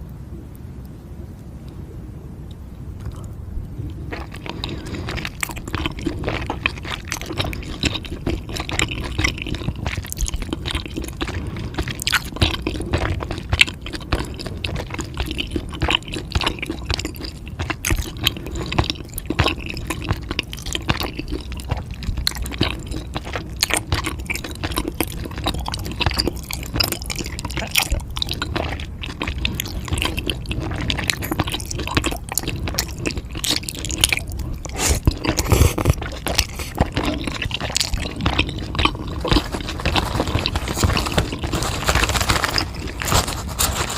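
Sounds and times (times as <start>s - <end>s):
wet chewing mouth sounds: 3.0s - 43.9s.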